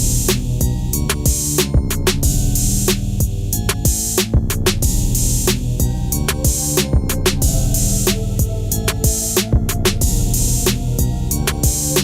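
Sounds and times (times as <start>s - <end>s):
electronic drum beat: 0.0s - 12.0s
sustained bass and synth notes: 0.0s - 12.0s.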